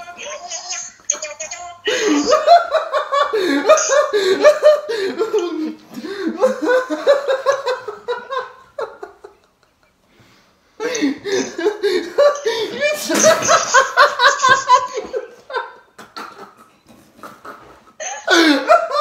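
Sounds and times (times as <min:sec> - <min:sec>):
men laughing: 0:01.9 - 0:10.0, 0:10.8 - 0:19.0.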